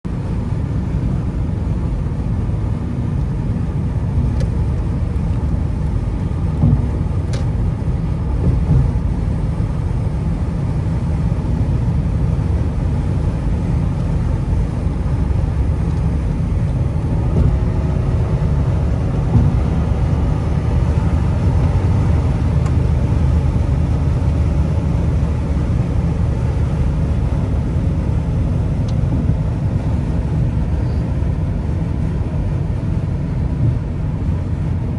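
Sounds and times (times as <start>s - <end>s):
car engine rumble: 0.0s - 34.9s
road noise: 0.1s - 34.9s.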